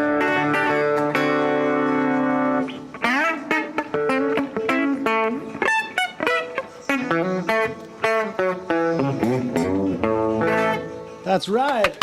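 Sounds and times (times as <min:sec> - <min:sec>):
electric guitar picked notes: 0:00.0 - 0:12.0.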